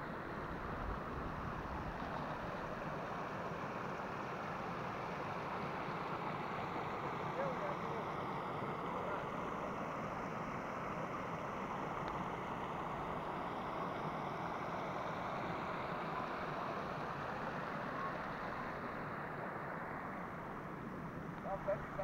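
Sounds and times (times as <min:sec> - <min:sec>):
steady rushing outdoor noise: 0:00.0 - 0:22.0.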